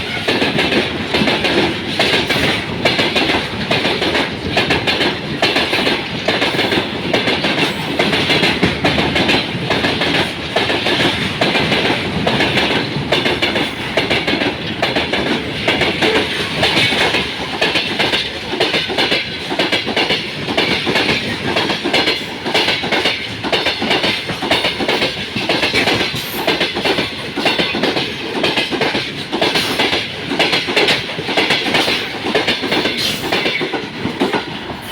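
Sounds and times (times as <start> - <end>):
freight train wheels clattering: 0.0 - 34.9.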